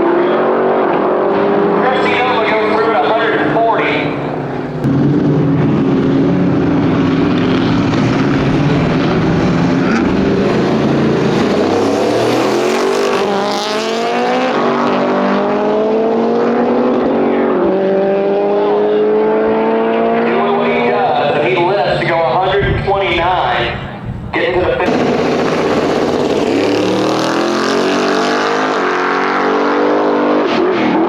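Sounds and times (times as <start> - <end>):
race car engines accelerating: 0.0 - 31.0.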